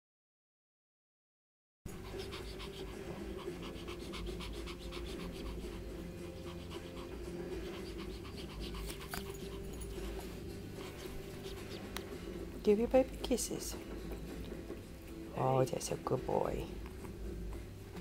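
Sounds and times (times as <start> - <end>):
puppy panting: 1.9 - 15.3, 16.0 - 18.0.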